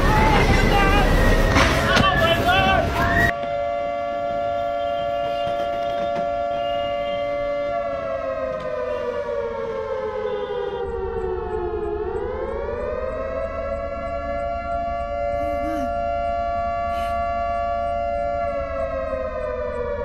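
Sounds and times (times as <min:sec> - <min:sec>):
warning siren two-note wail: 0:03.3 - 0:20.0.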